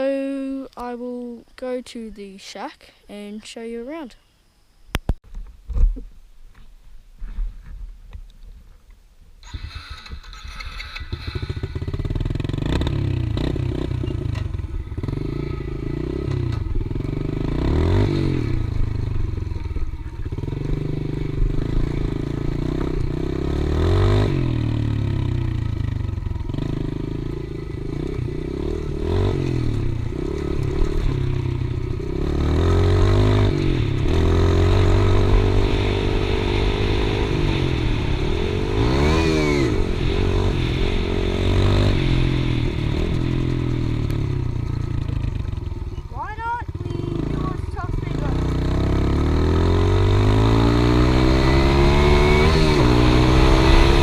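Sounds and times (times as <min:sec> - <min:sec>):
motorbike engine revving: 0:09.4 - 0:54.0.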